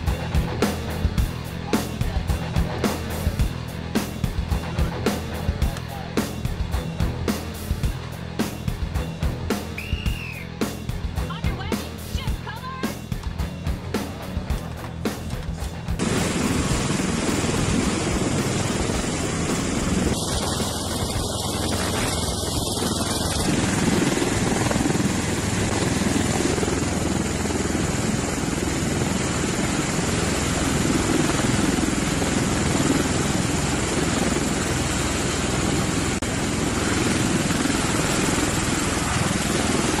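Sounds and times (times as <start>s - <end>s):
tiltrotor aircraft hovering: 0.0s - 40.0s.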